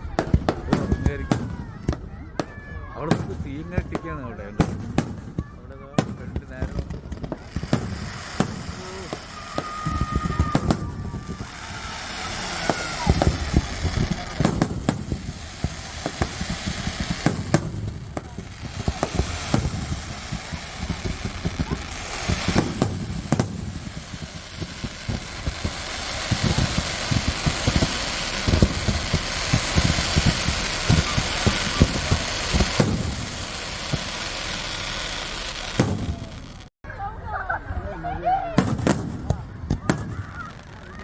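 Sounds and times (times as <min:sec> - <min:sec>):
fireworks bangs and crackling: 0:00.0 - 0:36.7, 0:38.3 - 0:41.0.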